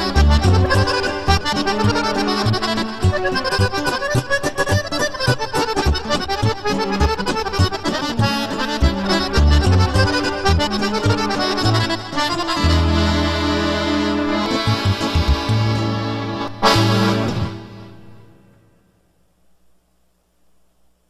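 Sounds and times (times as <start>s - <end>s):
button accordion playing lively melody: 0.0s - 18.5s.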